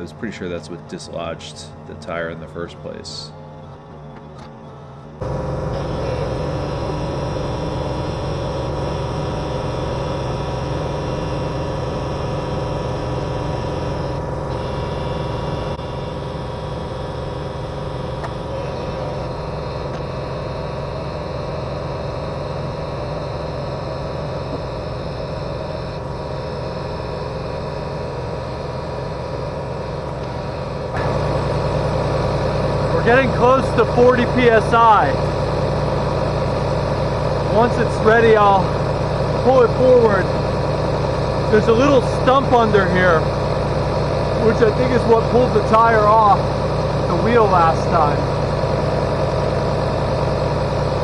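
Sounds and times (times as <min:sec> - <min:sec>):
motor humming steadily: 0:00.0 - 0:51.0.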